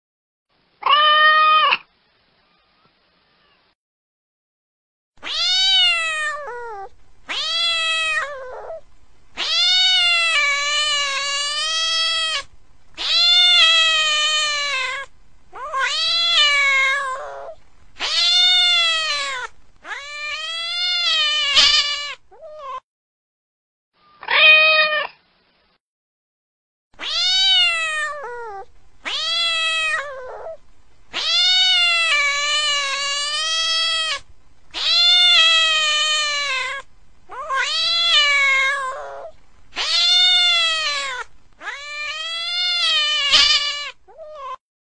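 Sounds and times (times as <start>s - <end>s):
cat meowing: 0.8s - 1.9s, 5.2s - 8.8s, 9.4s - 22.8s, 24.1s - 25.2s, 27.0s - 44.6s.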